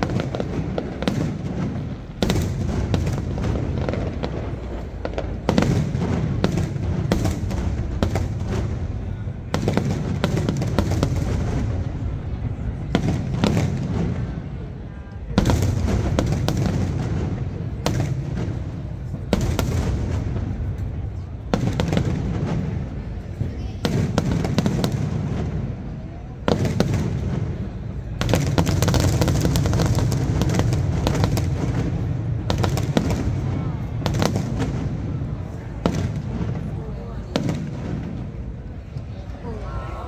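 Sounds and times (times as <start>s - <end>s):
fireworks bangs and crackling: 0.0s - 39.6s
continuous low rumble: 0.0s - 40.0s.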